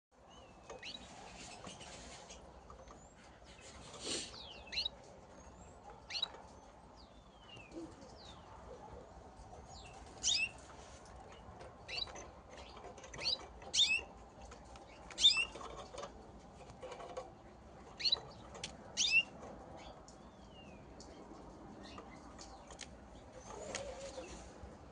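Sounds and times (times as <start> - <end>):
canaries chirping: 0.2 - 24.5.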